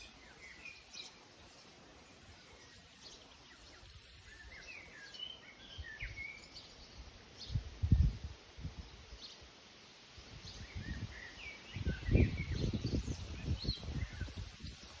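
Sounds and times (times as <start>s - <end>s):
small birds chirping: 0.0s - 8.2s, 8.8s - 9.6s, 10.2s - 15.0s.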